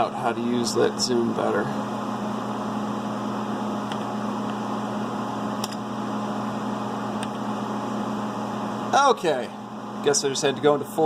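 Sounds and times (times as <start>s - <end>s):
milling machine idling hum: 0.0s - 11.0s.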